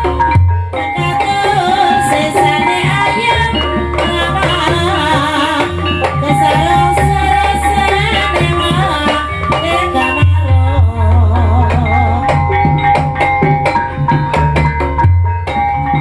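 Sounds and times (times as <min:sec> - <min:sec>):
gamelan-style melodic instruments: 0:00.0 - 0:16.0
hand drums beating: 0:00.0 - 0:16.0.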